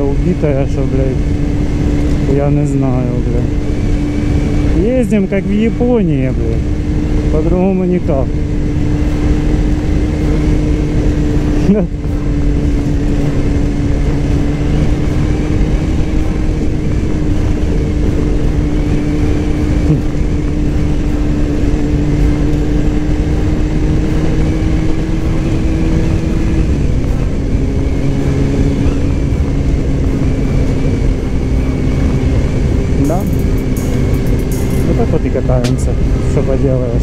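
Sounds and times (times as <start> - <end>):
motorcycle engine cruising: 0.0 - 37.0
wind rush on microphone: 0.0 - 37.0.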